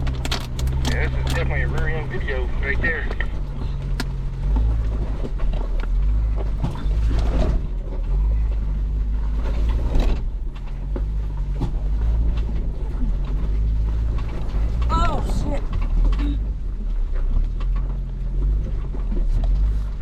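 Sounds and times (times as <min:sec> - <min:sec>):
vehicle engine running low: 0:00.0 - 0:20.0.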